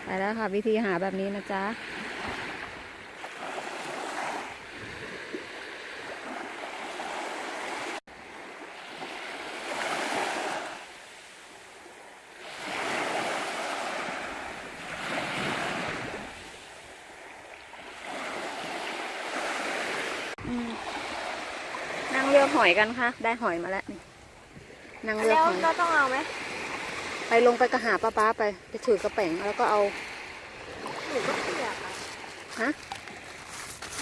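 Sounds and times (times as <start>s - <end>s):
small waves washing onto beach: 0.0s - 34.0s.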